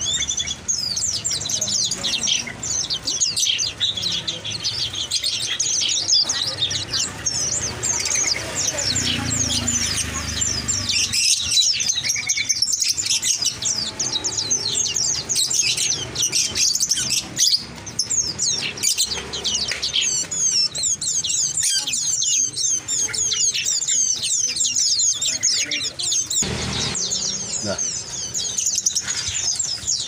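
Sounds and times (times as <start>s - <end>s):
songbirds chirping and twittering: 0.0s - 30.0s.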